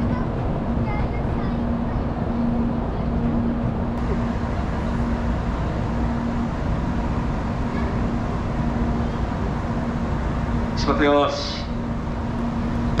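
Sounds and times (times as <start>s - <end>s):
train standing rumble: 0.0s - 13.0s.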